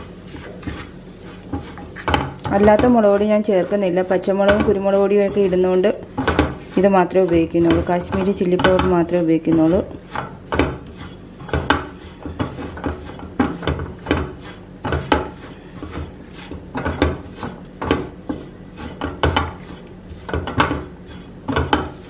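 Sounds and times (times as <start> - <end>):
spatula scraping and stirring in a pan: 0.0 - 22.0.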